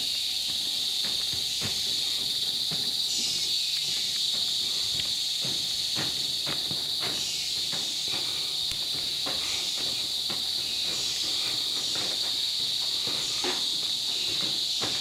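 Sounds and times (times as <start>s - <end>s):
footsteps on wooden boardwalk: 0.0s - 15.0s
insect buzz: 0.0s - 15.0s
insect chorus drone: 0.0s - 15.0s.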